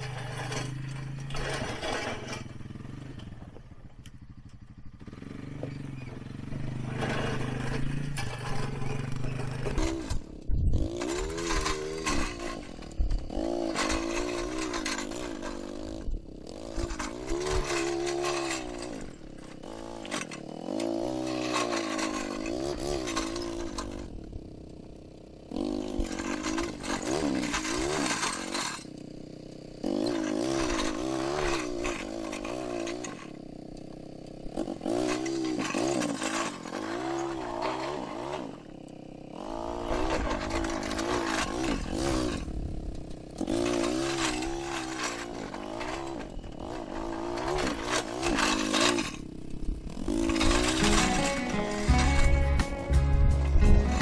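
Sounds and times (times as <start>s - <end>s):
engine revving under load: 0.0s - 54.0s.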